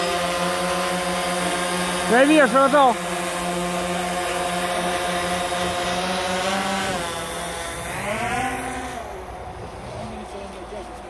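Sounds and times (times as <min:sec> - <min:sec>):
drone motors and propellers humming: 0:00.0 - 0:11.0.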